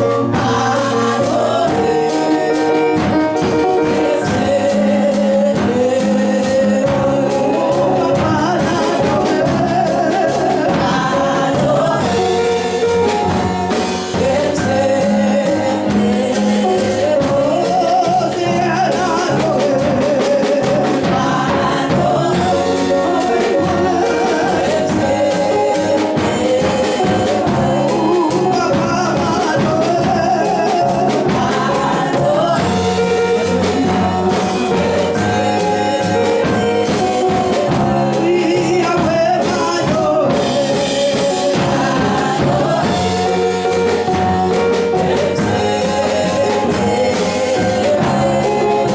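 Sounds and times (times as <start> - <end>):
gospel voices singing with band: 0.0 - 48.9.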